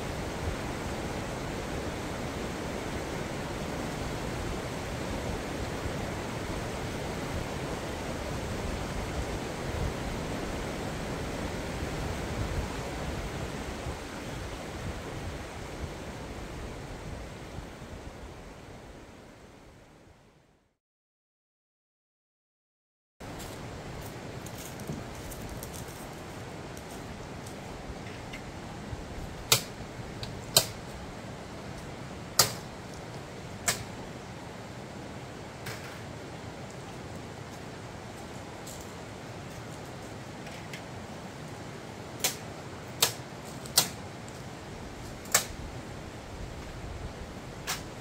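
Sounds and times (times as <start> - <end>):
river rushing over rocks: 0.0 - 19.6, 23.2 - 48.0.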